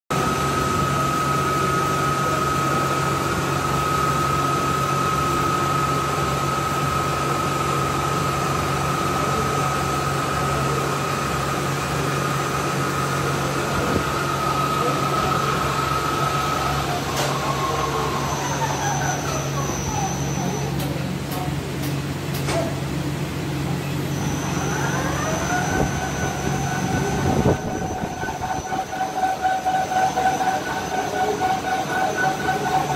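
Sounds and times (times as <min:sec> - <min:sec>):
high-pitched machine whine: 0:00.1 - 0:32.9
machinery humming: 0:00.1 - 0:32.9.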